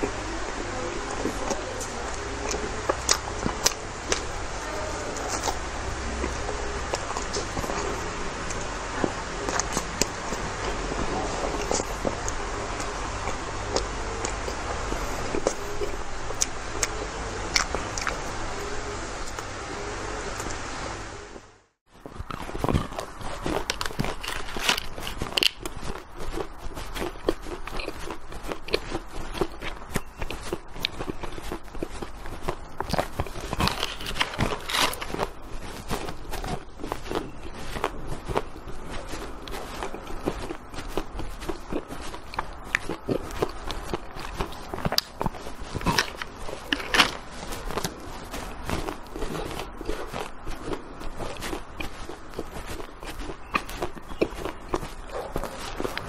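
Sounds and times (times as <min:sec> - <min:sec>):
crunchy food chewing: 0:01.0 - 0:19.5, 0:22.0 - 0:56.0.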